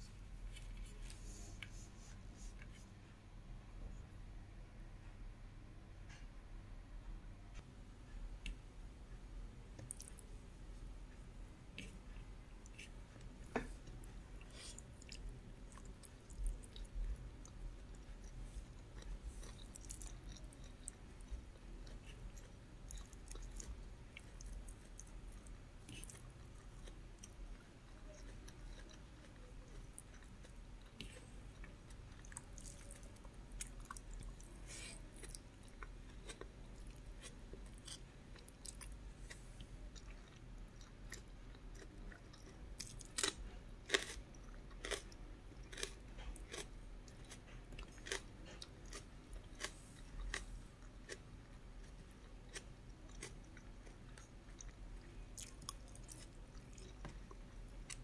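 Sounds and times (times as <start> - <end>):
person chewing food: 9.7 - 10.4, 11.4 - 58.0.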